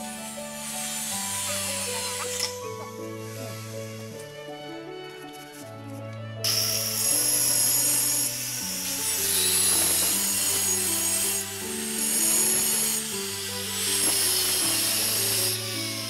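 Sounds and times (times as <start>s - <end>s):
bright hissing layer: 0.0s - 4.4s, 6.4s - 16.0s.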